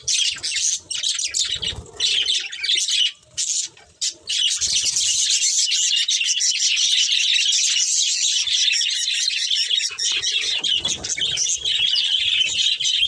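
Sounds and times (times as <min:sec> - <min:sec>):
budgerigars chirping and chattering: 0:00.0 - 0:13.0.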